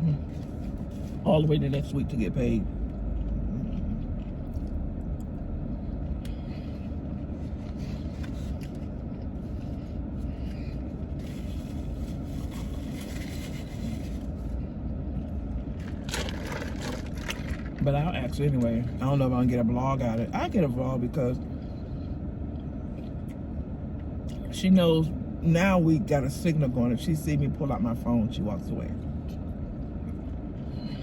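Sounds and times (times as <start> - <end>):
car cabin low rumble: 0.0 - 31.0.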